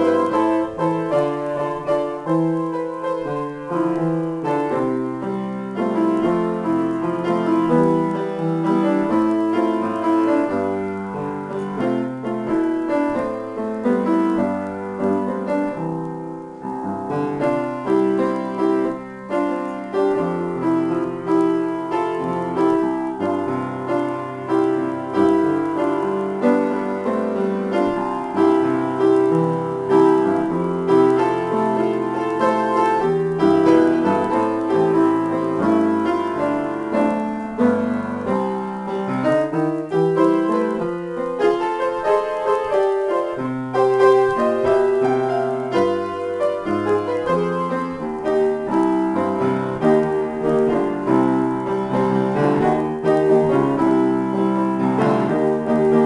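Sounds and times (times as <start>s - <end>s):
solo piano improvisation: 0.0s - 56.0s.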